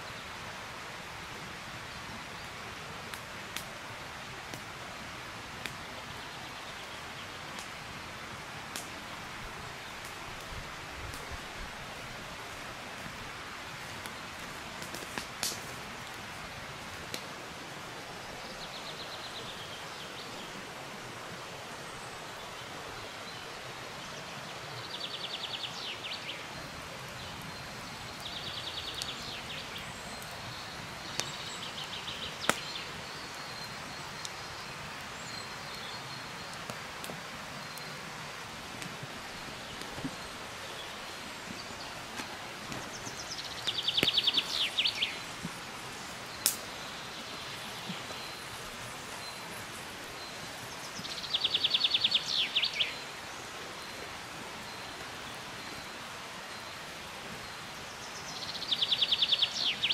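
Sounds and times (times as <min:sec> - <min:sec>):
rushing background hiss: 0:00.0 - 0:59.9.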